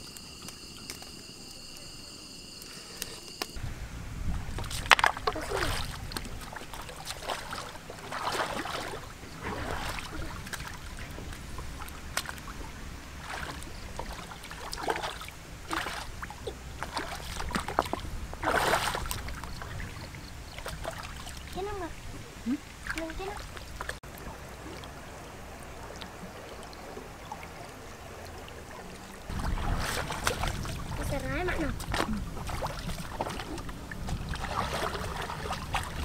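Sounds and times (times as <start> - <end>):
low rumble: 3.6 - 36.0
hands splashing in stream water: 4.6 - 21.5, 22.8 - 36.0.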